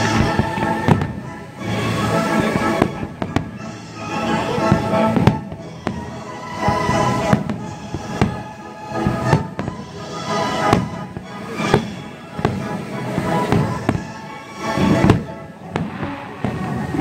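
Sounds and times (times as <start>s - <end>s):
music: 0.0s - 17.0s
firework shells bursting: 2.1s - 3.8s, 4.4s - 17.0s.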